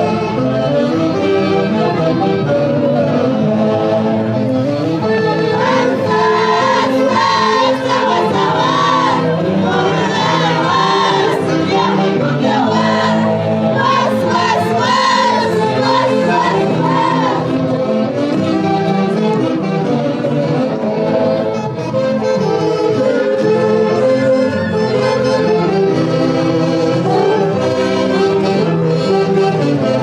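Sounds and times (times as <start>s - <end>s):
festival band music: 0.0s - 30.0s
saxophones and violins melody: 0.0s - 30.0s.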